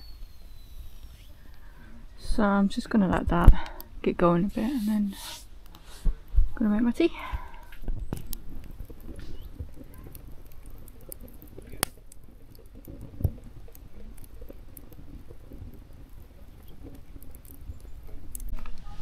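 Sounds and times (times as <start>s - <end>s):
fire burning rumble: 0.0s - 19.0s
fire crackling and popping: 0.0s - 19.0s.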